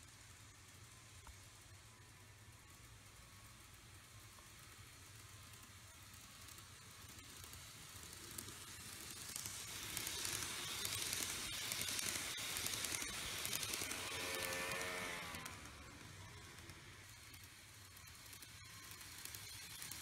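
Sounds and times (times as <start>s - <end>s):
model train wheels rattling: 0.0s - 20.0s.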